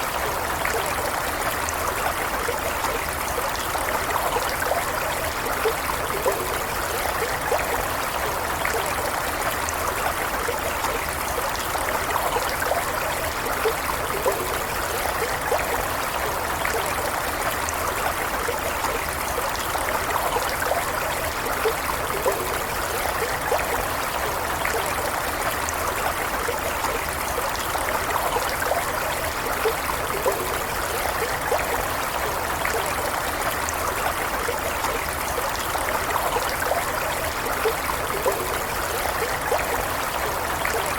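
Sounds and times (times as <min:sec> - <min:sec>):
stream flowing and trickling: 0:00.0 - 0:40.9.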